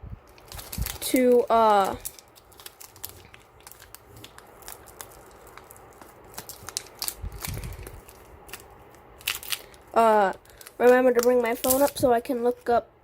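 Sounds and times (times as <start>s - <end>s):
foil wrapper crinkling: 0.2s - 12.7s.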